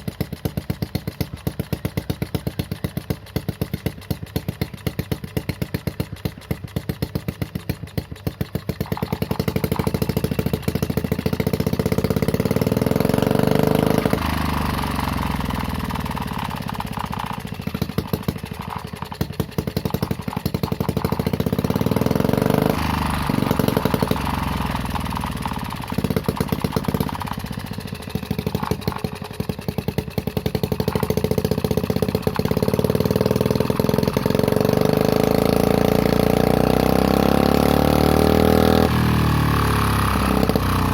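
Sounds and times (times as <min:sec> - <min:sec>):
small engine idling and revving: 0:00.0 - 0:40.9.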